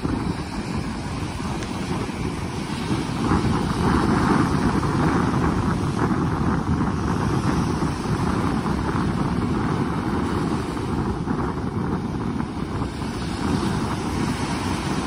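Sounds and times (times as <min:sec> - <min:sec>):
small waves breaking on a beach: 0:00.0 - 0:15.0
wind buffeting microphone: 0:00.0 - 0:15.0.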